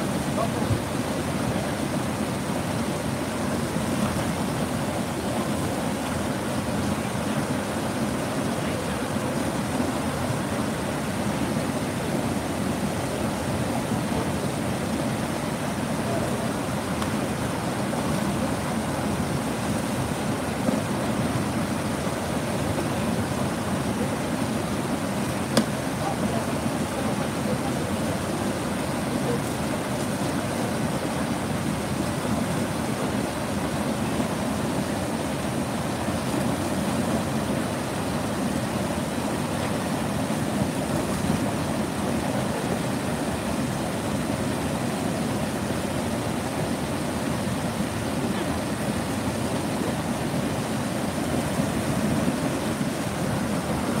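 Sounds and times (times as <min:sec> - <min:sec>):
water rushing over dam spillway: 0:00.0 - 0:54.0.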